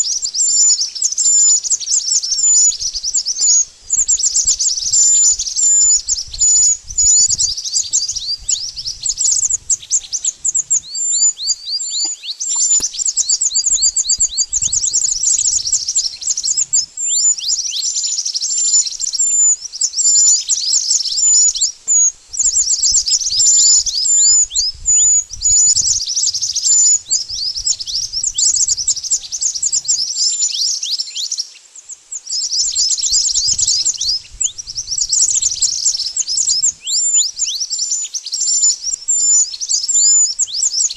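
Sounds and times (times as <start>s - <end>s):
bird song high chirps: 0.0s - 40.9s.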